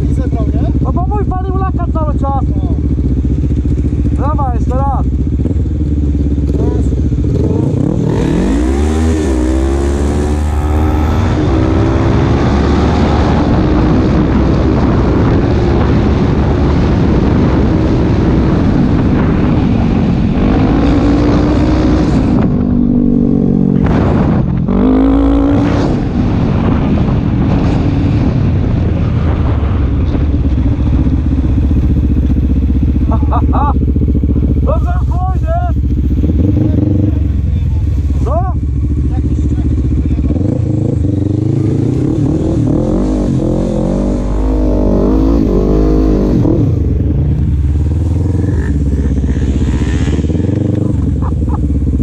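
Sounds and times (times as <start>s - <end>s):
quad bike engine revving: 0.0s - 26.1s, 30.4s - 52.0s.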